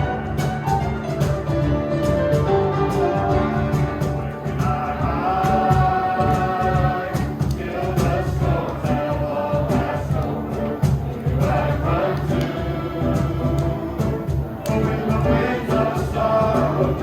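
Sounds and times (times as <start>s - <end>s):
instruments with steady beat: 0.0s - 17.0s
group of voices singing: 2.9s - 17.0s.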